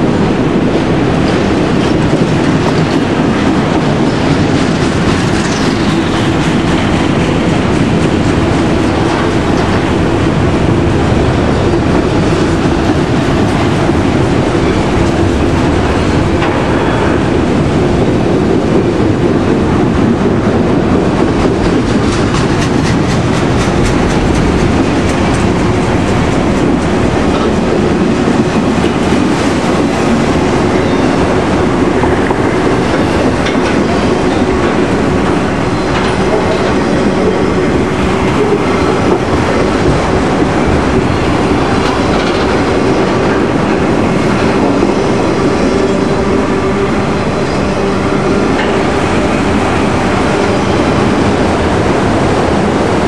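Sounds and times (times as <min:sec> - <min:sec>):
clickety-clack over rail joints: 0:00.0 - 0:53.0
train wheels rumbling on rail: 0:00.0 - 0:53.0.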